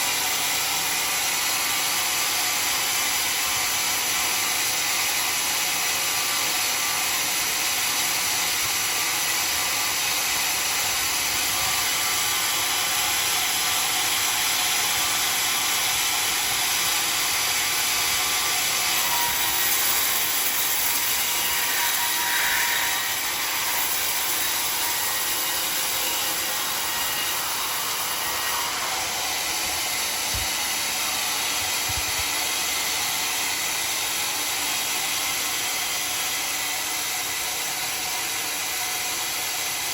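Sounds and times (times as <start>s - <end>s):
saw blade cutting log: 0.0s - 39.9s.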